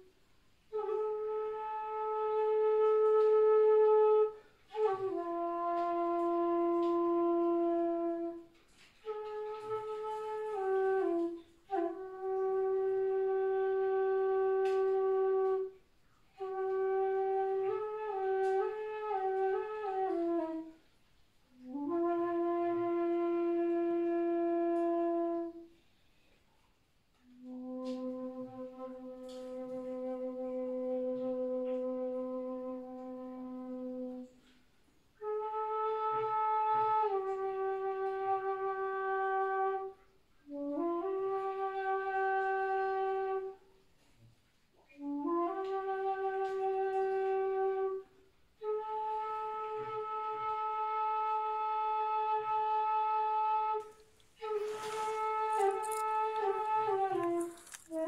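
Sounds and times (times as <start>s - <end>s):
solo wind instrument melody: 0.0s - 25.8s, 27.2s - 44.2s, 44.8s - 58.0s.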